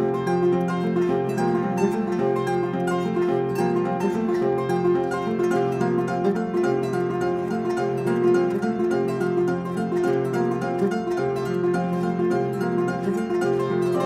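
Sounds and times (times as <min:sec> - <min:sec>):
harp plucked solo: 0:00.0 - 0:14.0.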